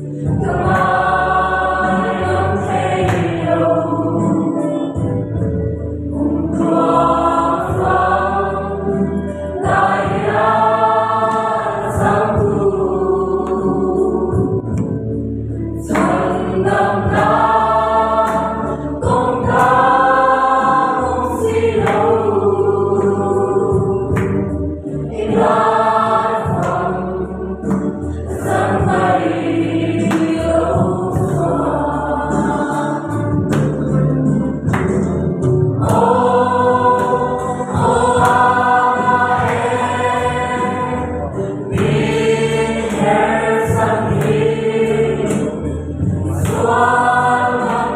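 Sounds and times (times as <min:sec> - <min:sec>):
group singing worship chorus: 0:00.0 - 0:47.9.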